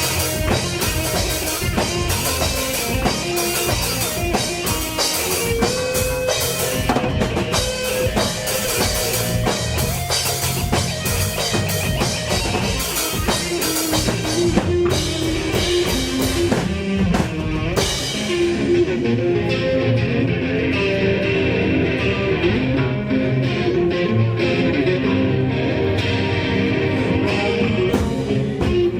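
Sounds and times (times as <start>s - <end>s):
bass notes: 0.0s - 28.9s
drum kit: 0.0s - 28.9s
electric guitar: 0.0s - 28.9s.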